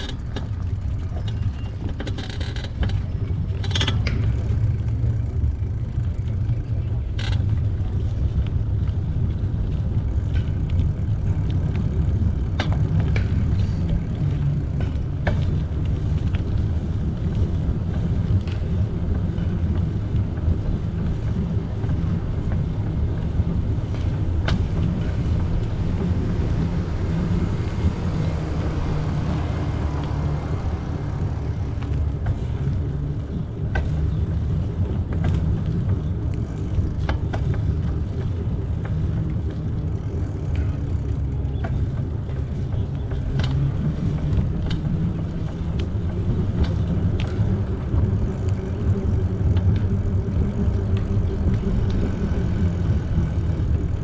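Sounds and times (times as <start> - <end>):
bicycle clicks and ticks: 0.0 - 54.0
wind rumble on microphone: 0.0 - 54.0.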